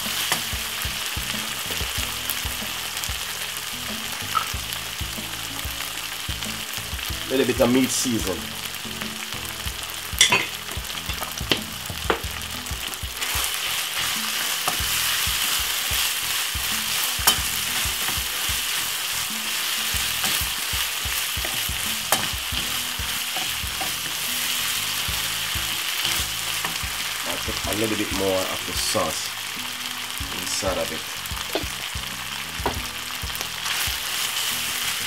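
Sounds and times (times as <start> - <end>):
meat sizzling in a pan: 0.0 - 35.0.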